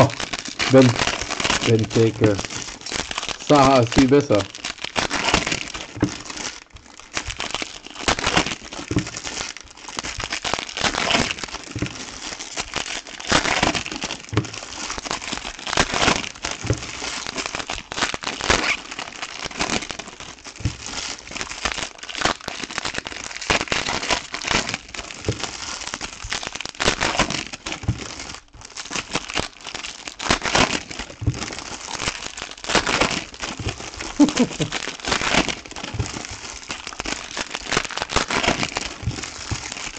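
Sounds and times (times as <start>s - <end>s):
foil wrappers crinkling: 0.0s - 39.9s.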